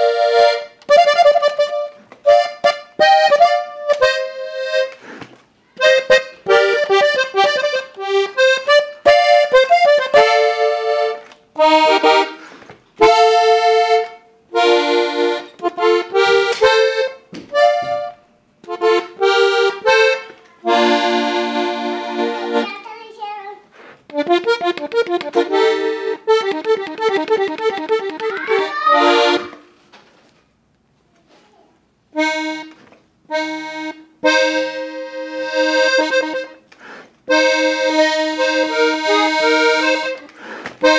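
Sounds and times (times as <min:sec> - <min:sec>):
button accordion playing: 0:00.0 - 0:05.2, 0:05.8 - 0:22.9, 0:24.0 - 0:29.8, 0:32.1 - 0:40.9.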